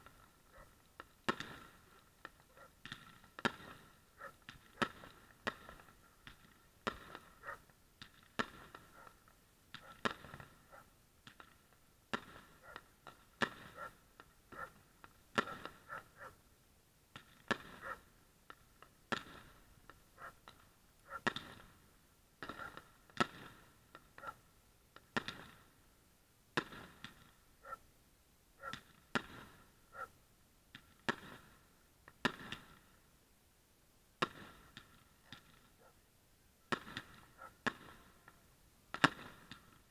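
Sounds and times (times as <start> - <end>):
fireworks bangs: 0.0 - 16.3, 17.1 - 25.8, 26.5 - 27.4, 28.7 - 29.7, 30.7 - 33.0, 34.2 - 35.8, 36.7 - 39.9.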